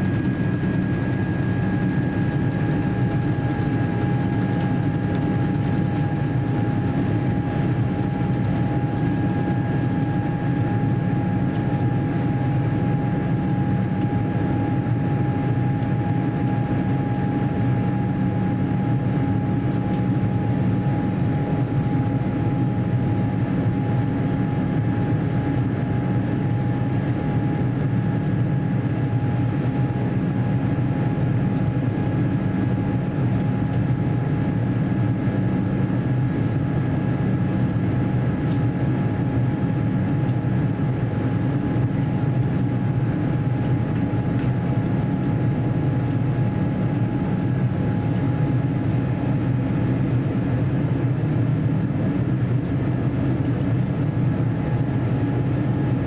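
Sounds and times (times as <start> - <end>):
aircraft cabin drone: 0.0 - 56.0.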